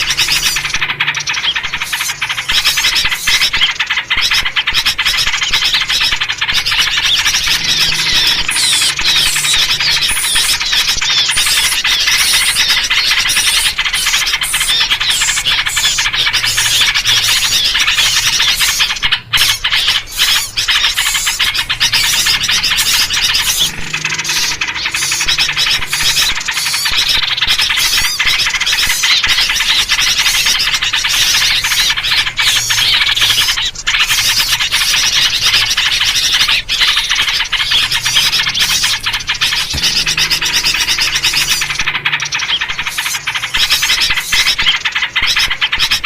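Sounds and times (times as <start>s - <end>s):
bulbul calls: 0.0s - 46.0s
songbirds chattering: 0.0s - 46.0s.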